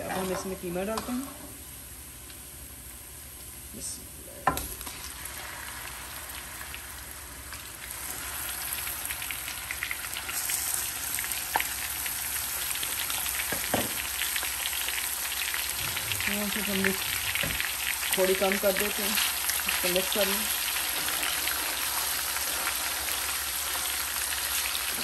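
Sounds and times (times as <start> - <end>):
meat sizzling in oil: 4.6 - 25.0.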